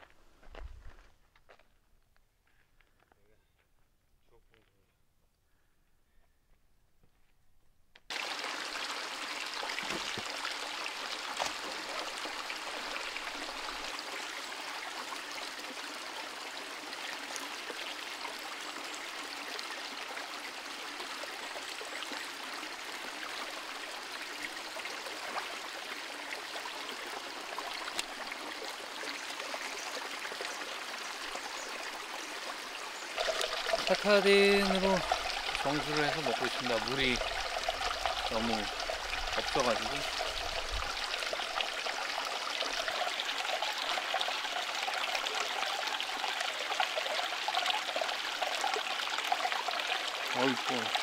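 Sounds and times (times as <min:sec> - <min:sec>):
stream running over rocks: 0:08.1 - 0:51.0.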